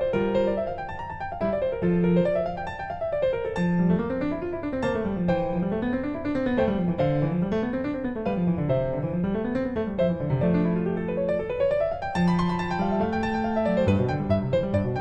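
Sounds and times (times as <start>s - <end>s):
piano arpeggios: 0.0s - 15.0s.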